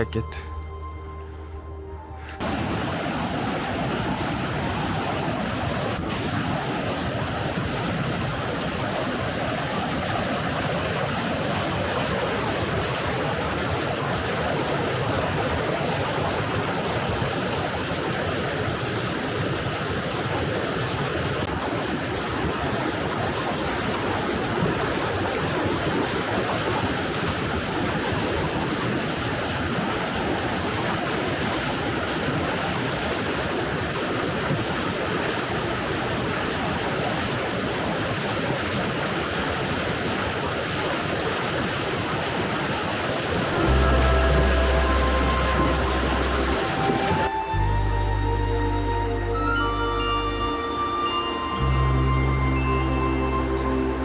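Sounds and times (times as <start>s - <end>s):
river rushing over rocks: 2.4s - 47.4s.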